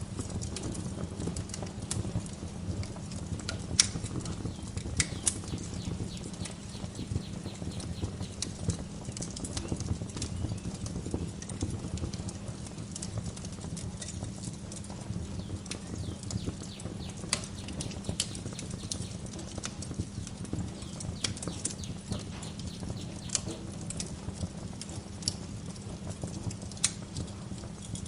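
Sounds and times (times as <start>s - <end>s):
wood fire crackling: 0.1s - 28.0s.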